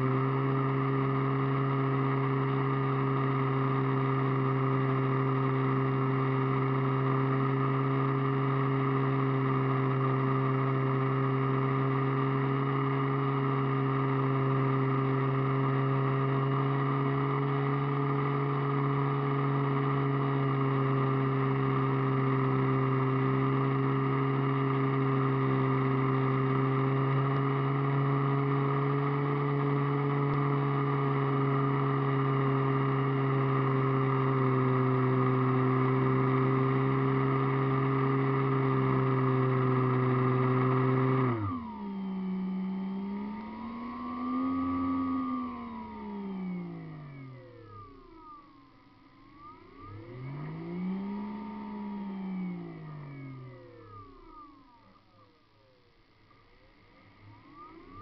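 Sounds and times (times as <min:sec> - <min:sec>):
model aircraft motor drone: 0:00.0 - 0:58.0.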